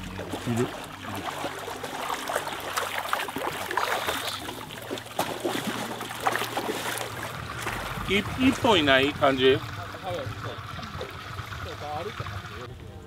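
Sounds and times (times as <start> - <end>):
muddy water splashing: 0.0 - 12.7.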